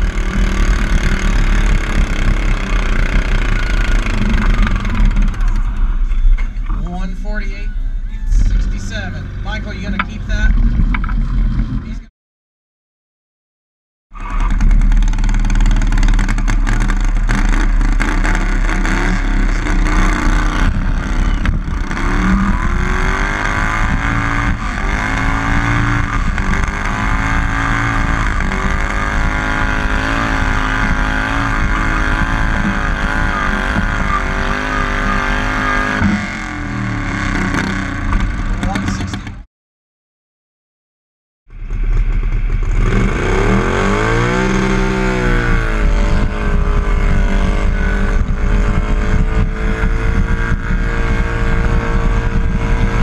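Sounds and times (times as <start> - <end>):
tractor engine revving: 0.0 - 12.1, 14.1 - 39.5, 41.5 - 53.0.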